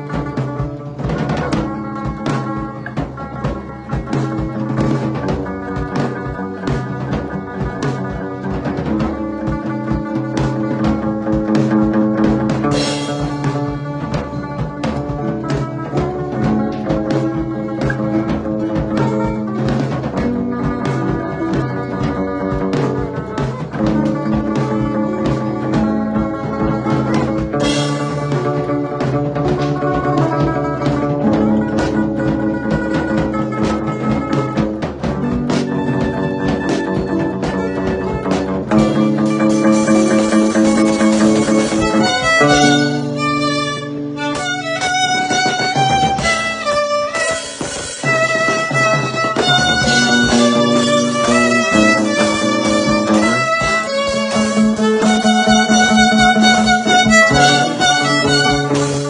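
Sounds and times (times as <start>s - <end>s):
band playing a song: 0.0s - 59.0s
rhythmic accompaniment: 0.0s - 59.0s
violin melody: 0.0s - 59.0s.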